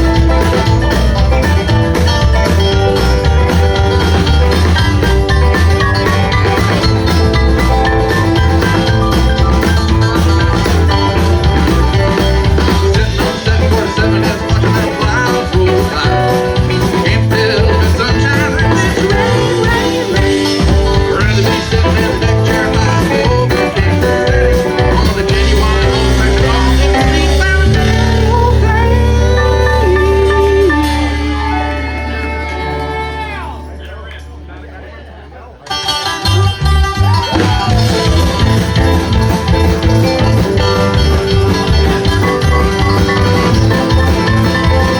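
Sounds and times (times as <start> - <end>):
live band playing amplified music: 0.0 - 44.9.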